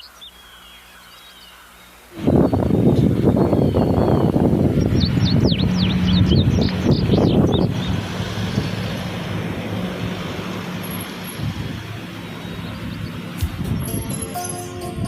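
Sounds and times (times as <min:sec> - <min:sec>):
birds chirping: 0:00.0 - 0:15.0
road traffic rumble: 0:01.5 - 0:15.0
vehicle engine low hum: 0:02.1 - 0:15.0.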